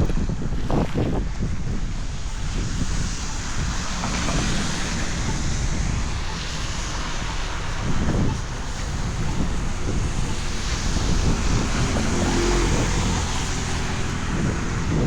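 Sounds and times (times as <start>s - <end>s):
street traffic noise: 0.0s - 15.0s
wind buffeting microphone: 0.0s - 15.0s.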